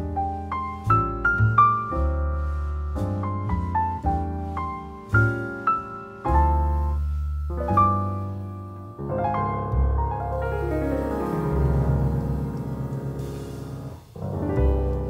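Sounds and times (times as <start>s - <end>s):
piano notes ringing: 0.0s - 15.0s.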